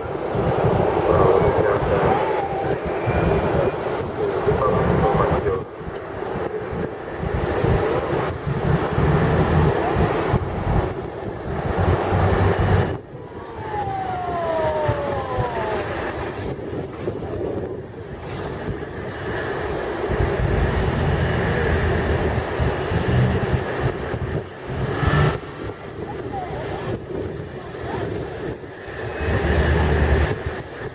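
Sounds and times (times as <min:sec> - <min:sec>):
jet engines roaring: 0:00.0 - 0:30.9
wind rumbling on microphone: 0:00.0 - 0:30.9.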